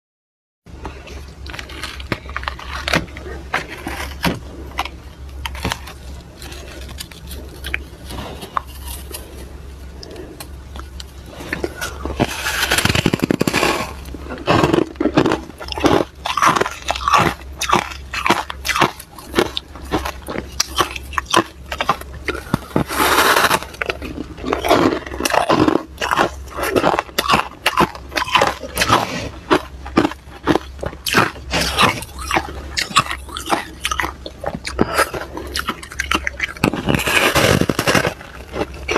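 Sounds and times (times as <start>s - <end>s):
frost crunching when chewed: 0.7s - 38.9s
frost crackling when handled: 1.1s - 38.9s.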